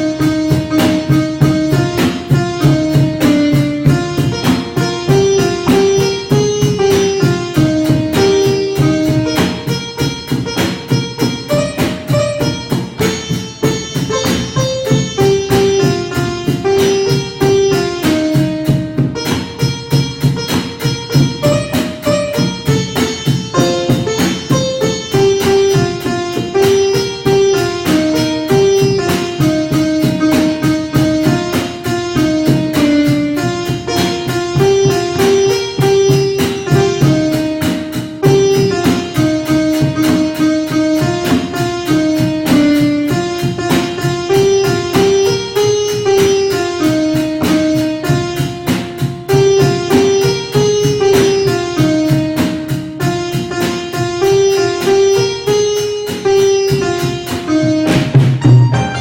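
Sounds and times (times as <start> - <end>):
stream of plucked notes: 0.0 - 59.0.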